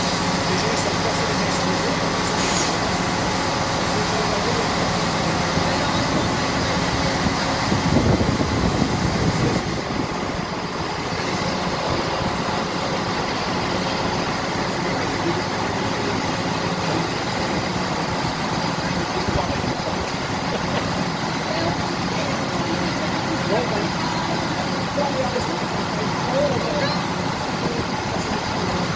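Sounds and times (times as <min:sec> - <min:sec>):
standing train humming: 0:00.0 - 0:28.9.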